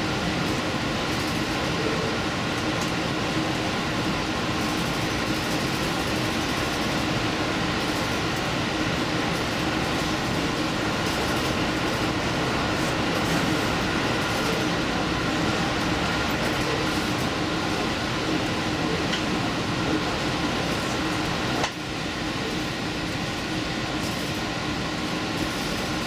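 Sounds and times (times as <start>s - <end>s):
diesel train rumbling on rails: 0.0s - 26.0s.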